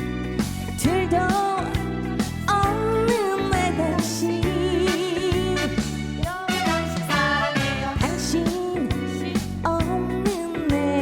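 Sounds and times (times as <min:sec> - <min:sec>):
live trot song performance: 0:00.4 - 0:09.8.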